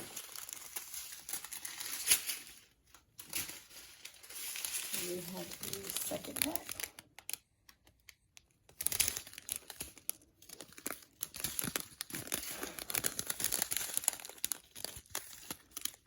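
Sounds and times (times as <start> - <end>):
plastic packets crinkling: 0.0 - 16.0.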